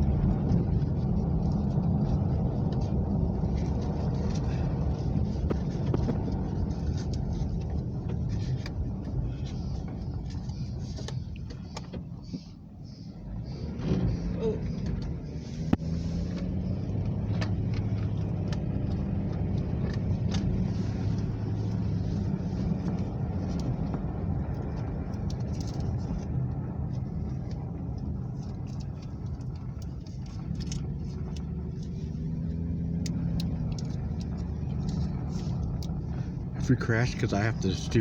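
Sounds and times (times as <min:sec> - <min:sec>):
engine and road drone: 0:00.0 - 0:38.0.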